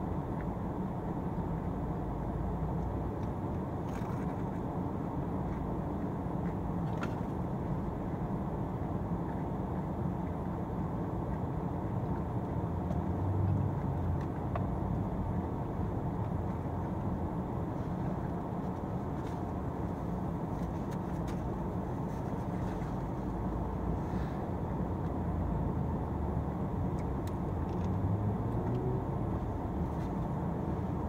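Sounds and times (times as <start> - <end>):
car cabin rumble: 0.0 - 31.0.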